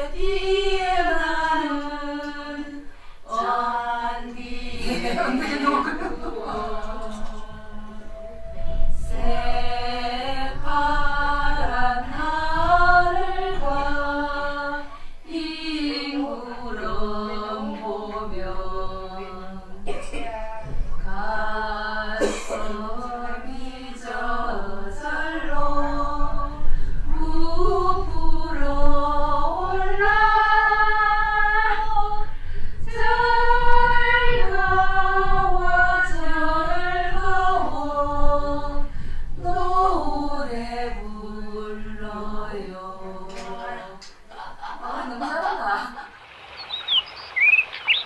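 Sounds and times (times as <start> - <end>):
women singing unaccompanied: 0.0 - 46.0.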